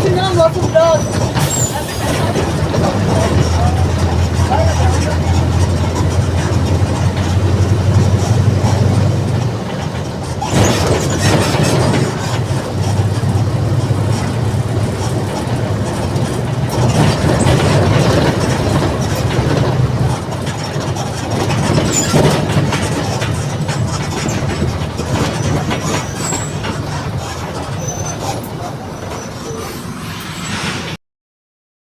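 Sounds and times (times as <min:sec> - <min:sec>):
bus diesel engine droning: 0:00.0 - 0:30.5.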